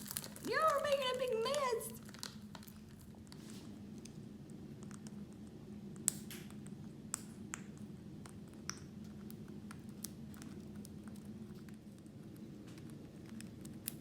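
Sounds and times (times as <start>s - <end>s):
parrot beaks crunching bird food: 0.0s - 14.0s
steady low hum: 0.0s - 14.0s.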